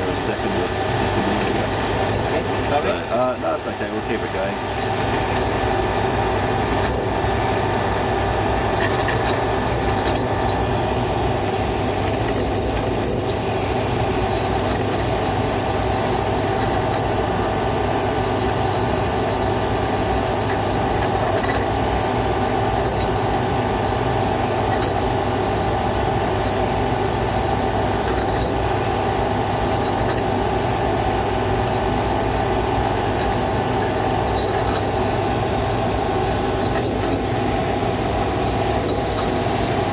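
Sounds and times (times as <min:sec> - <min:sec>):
high whine: 0:00.0 - 0:39.9
spinning mechanism grinding: 0:00.0 - 0:39.9.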